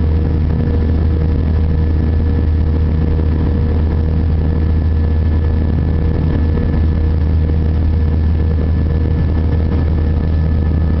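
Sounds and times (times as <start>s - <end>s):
faint whining tones: 0.0s - 11.0s
jet engine cabin drone: 0.0s - 11.0s.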